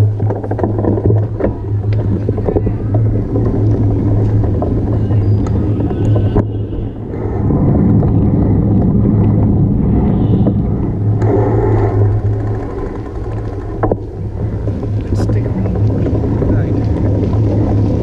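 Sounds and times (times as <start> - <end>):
bike road noise rumble: 0.0 - 18.0
steady low hum: 0.0 - 18.0.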